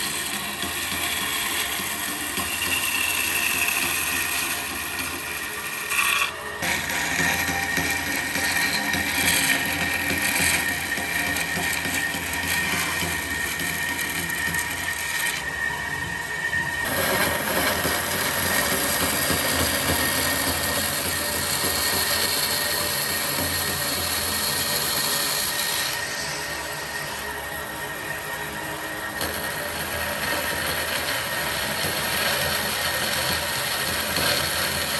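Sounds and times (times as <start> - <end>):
power tools on wood with whine: 0.0 - 34.9.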